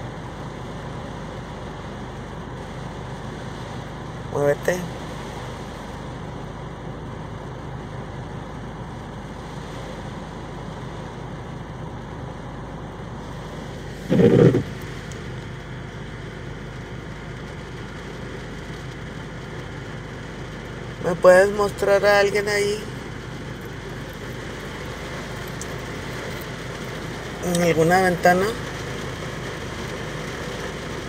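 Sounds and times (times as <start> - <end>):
air conditioning running: 0.0 - 31.0
car engine idling: 0.0 - 31.0.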